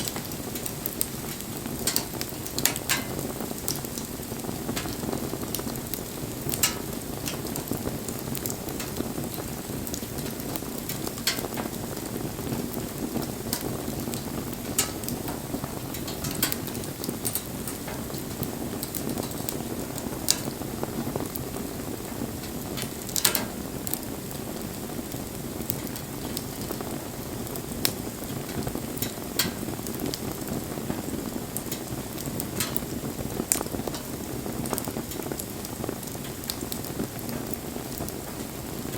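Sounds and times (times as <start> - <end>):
burning wood popping: 0.0 - 38.9
campfire crackling hiss: 0.0 - 38.9.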